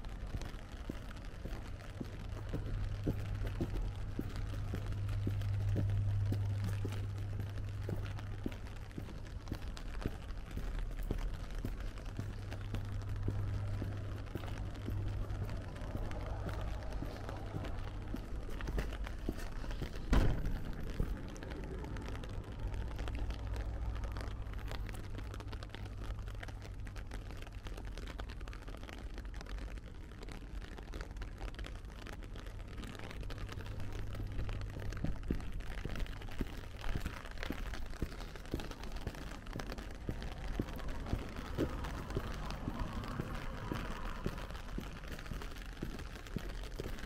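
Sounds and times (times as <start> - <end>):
footsteps: 0.0 - 26.5, 32.0 - 47.0
low rumble: 0.0 - 27.0, 32.5 - 47.0
rain ticking: 0.0 - 47.0.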